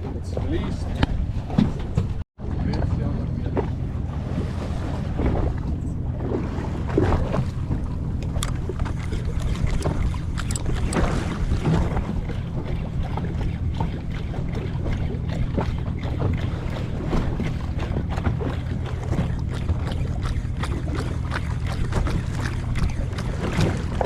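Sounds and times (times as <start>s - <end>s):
boat engine running: 0.0s - 24.0s
water slapping against hull: 0.0s - 24.0s
wind buffeting microphone: 0.0s - 24.0s.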